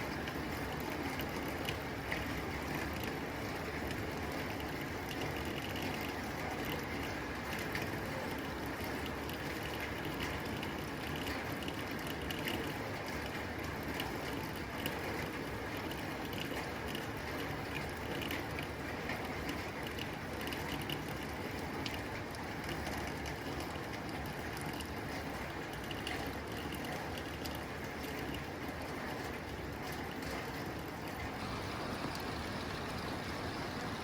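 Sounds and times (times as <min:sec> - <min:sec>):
rain on a tin roof: 0:00.0 - 0:34.0
raindrops tapping metal: 0:00.0 - 0:34.0.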